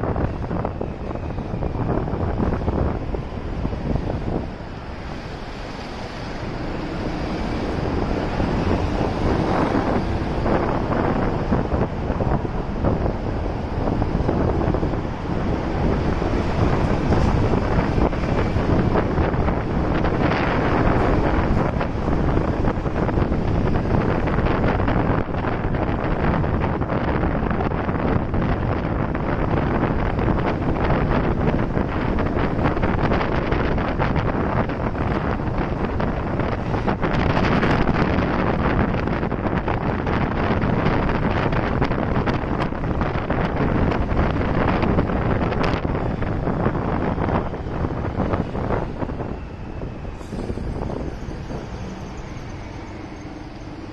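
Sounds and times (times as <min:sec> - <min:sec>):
traffic noise: 0:00.0 - 0:53.9
wind buffeting microphone: 0:00.0 - 0:53.9.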